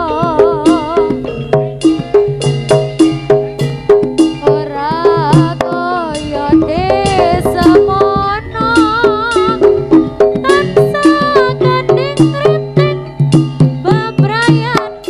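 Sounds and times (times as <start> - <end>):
hand drums: 0.0 - 15.0
tuned metal percussion: 0.0 - 15.0
wavering melody with vibrato: 0.0 - 15.0.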